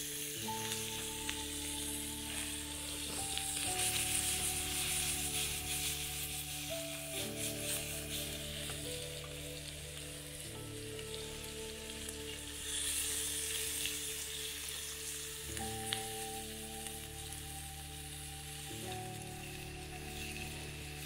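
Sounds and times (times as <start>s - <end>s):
mushrooms sizzling in frying pan: 0.0s - 21.0s
soft background music chords: 0.0s - 21.0s.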